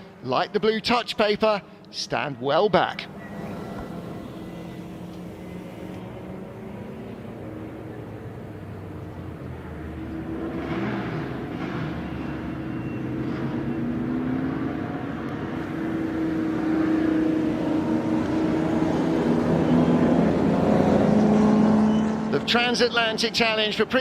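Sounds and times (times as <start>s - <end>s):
racing car engines: 0.0s - 24.0s.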